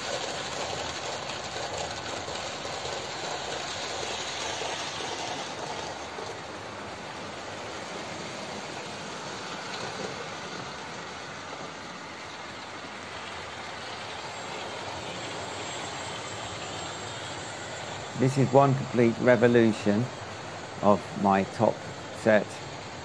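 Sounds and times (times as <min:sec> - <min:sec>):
model trains running: 0:00.0 - 0:23.0.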